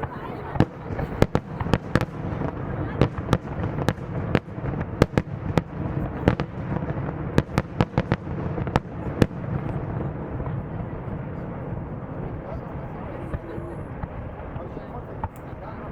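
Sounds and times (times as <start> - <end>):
fireworks bangs: 0.0 - 15.9.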